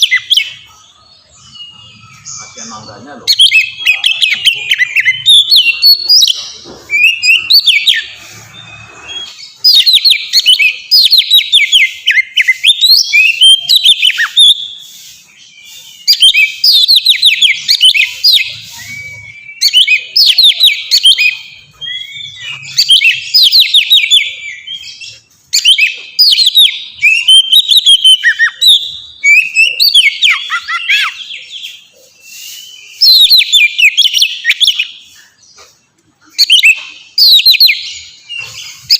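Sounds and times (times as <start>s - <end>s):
bird singing melodious song: 0.0s - 38.9s.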